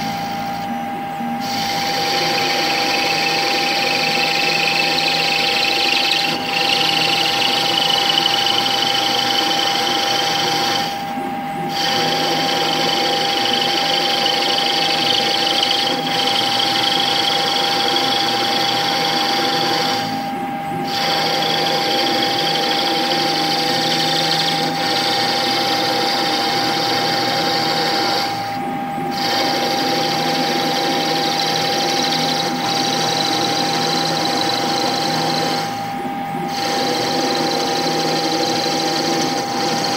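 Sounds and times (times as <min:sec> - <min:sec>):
constant machine whine: 0:00.0 - 0:39.9
lathe machining noise: 0:00.0 - 0:39.9
rising high whine: 0:00.0 - 0:39.9.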